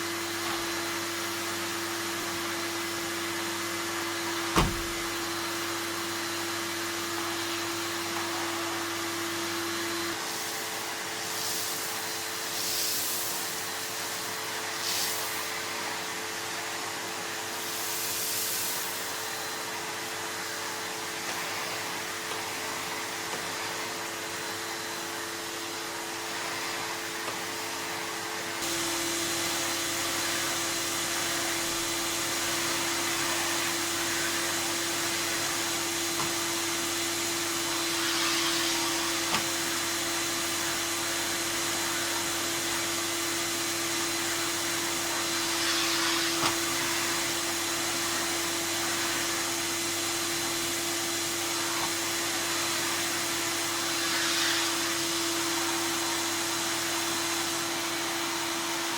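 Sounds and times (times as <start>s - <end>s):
vacuum cleaner whining: 0.0s - 58.9s.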